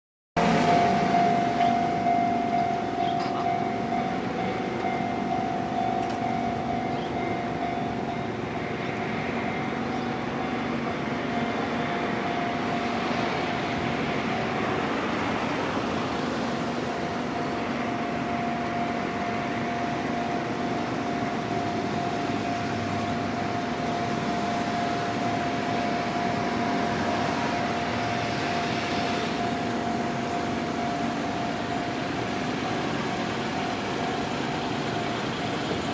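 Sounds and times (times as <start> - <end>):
level crossing alarm ringing: 0.4 - 35.9
train passing: 0.4 - 35.9.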